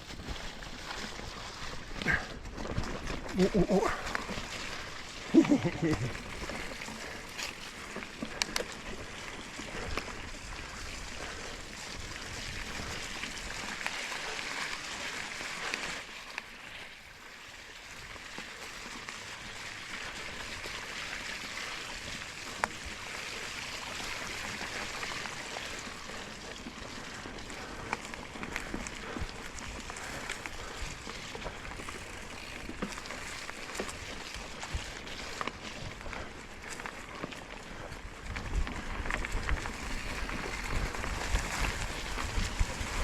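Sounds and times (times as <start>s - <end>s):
bike tyres rushing on wet ground: 0.0s - 43.0s.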